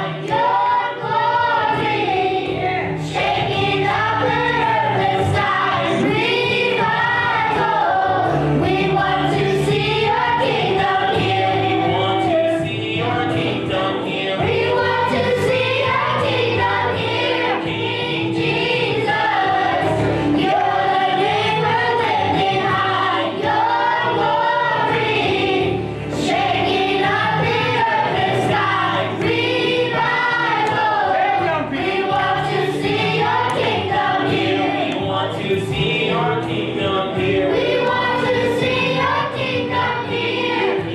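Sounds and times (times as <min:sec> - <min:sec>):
gospel choir singing: 0:00.0 - 0:40.9
instrumental accompaniment: 0:00.0 - 0:40.9.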